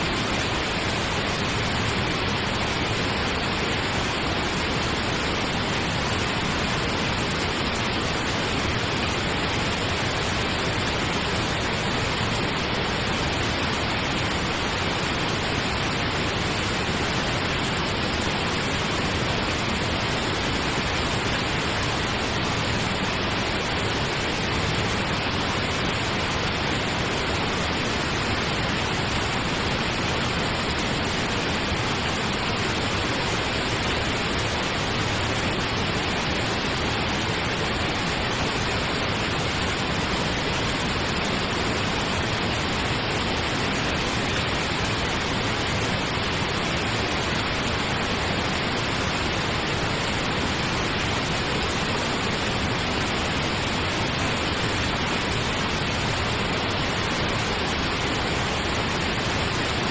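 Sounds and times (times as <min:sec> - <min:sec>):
steady pink noise: 0:00.0 - 0:59.9.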